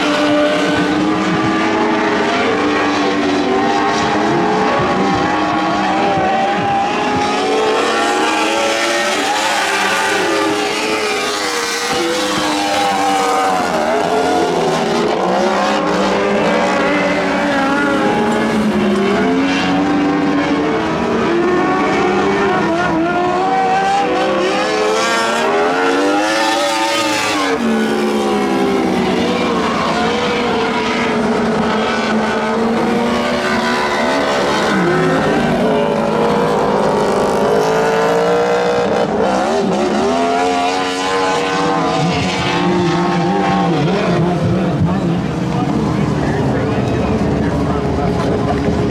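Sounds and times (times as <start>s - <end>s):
racing car engines: 0.0s - 48.9s.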